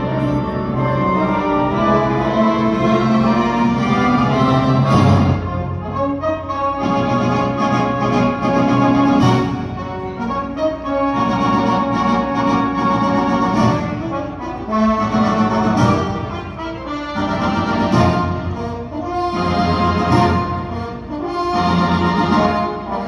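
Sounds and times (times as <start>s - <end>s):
brass-led orchestral music: 0.0s - 23.0s.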